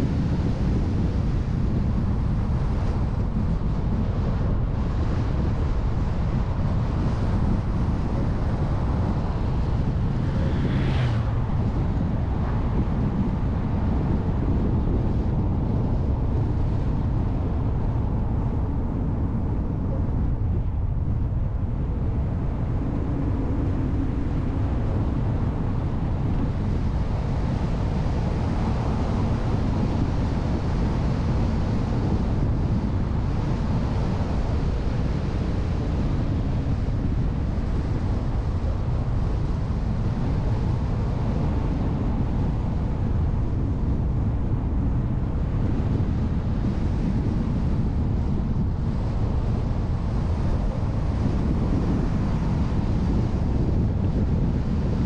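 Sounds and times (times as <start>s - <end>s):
car driving on road: 0.0s - 55.0s
wind buffeting microphone: 0.0s - 55.0s.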